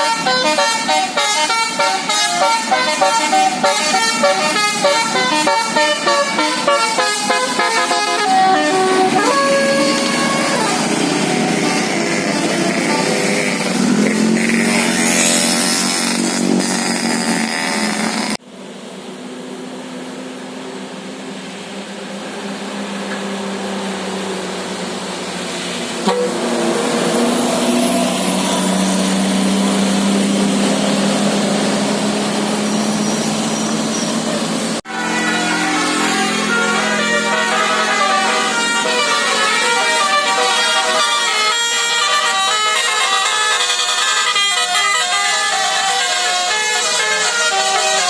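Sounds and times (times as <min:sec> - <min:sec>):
vehicle engines running: 0:00.0 - 0:48.0
motorbike engines passing: 0:01.7 - 0:18.4, 0:19.6 - 0:43.3.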